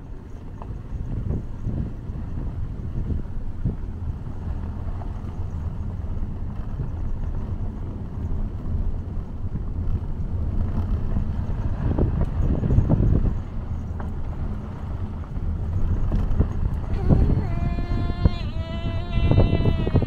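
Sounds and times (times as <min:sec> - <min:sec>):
car driving low rumble: 0:00.0 - 0:20.0.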